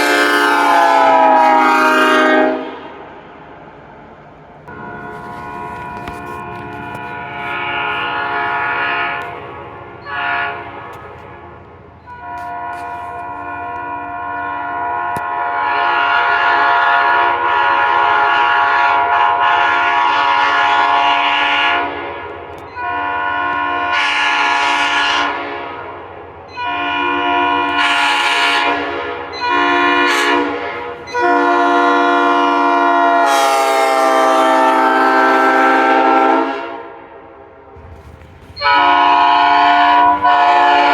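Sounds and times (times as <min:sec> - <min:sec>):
locomotive air horn blasts: 0:00.0 - 0:03.2, 0:04.7 - 0:37.3, 0:37.9 - 0:40.9.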